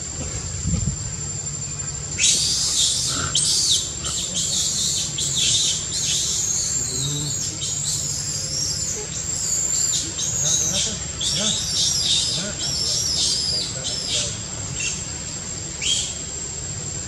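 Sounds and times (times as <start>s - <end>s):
birds chirping: 1.0s - 16.8s.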